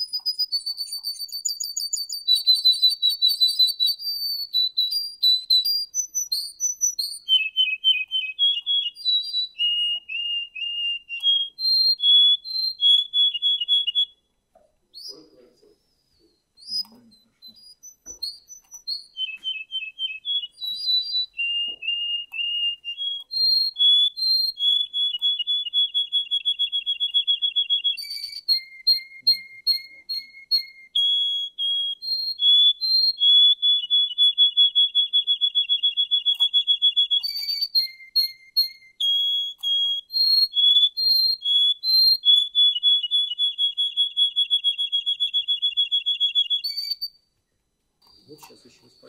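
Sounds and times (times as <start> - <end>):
canary singing trills: 0.0 - 47.3, 48.0 - 49.0.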